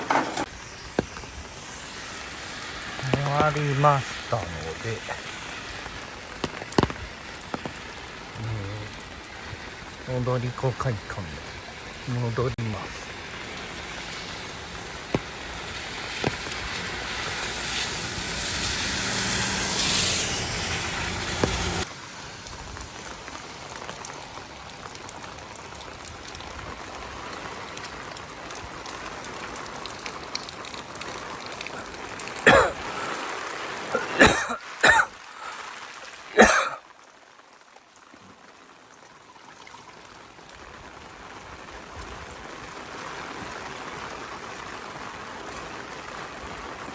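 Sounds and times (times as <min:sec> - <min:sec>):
heavy rain hissing: 0:00.0 - 0:38.9, 0:39.9 - 0:46.9.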